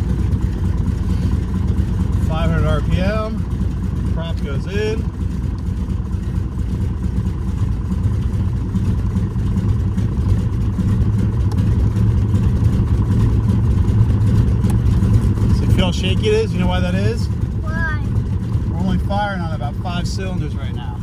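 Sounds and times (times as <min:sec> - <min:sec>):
radial engine idling rough: 0:00.0 - 0:21.0.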